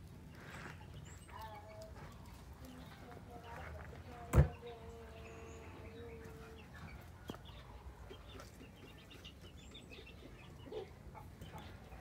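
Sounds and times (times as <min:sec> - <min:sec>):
chickens clucking and chirping: 0:00.0 - 0:12.0.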